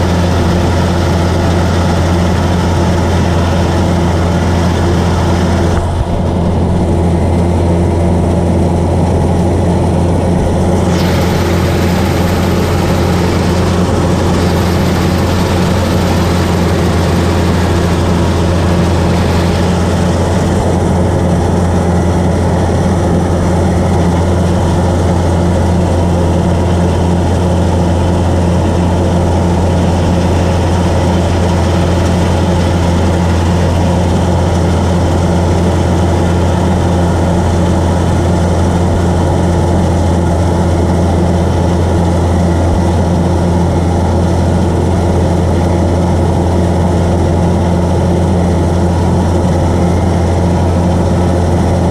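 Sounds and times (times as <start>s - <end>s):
combine harvester diesel engine drone: 0.0s - 51.9s.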